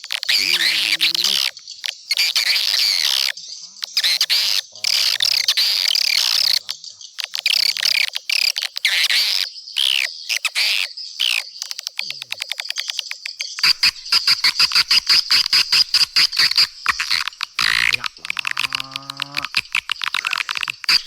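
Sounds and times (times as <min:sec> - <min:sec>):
fast short clicks: 0:00.0 - 0:21.0
swiftlets twittering: 0:00.0 - 0:21.0.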